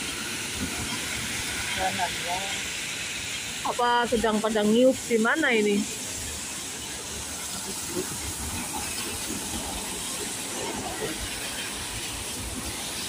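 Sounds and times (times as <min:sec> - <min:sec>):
drizzling rain: 0:00.0 - 0:13.0
traffic on wet road: 0:00.0 - 0:13.0.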